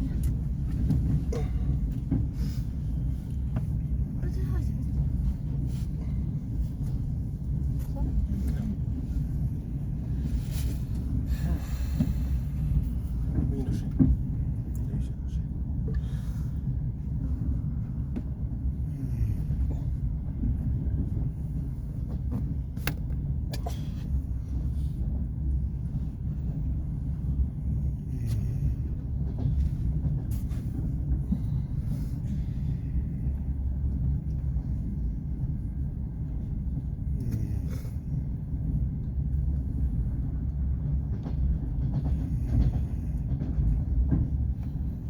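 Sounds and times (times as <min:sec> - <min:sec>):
train coach rumble: 0:00.0 - 0:45.0.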